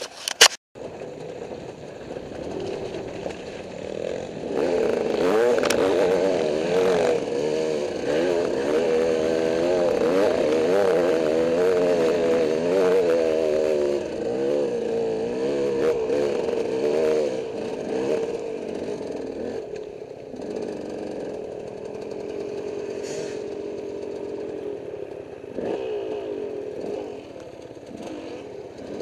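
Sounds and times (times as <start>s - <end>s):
dirt bike engine revving: 2.1s - 29.0s.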